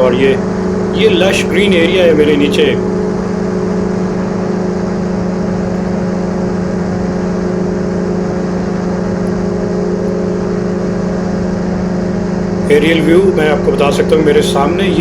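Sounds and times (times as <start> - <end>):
paratrike engine and propeller droning: 0.0 - 15.0.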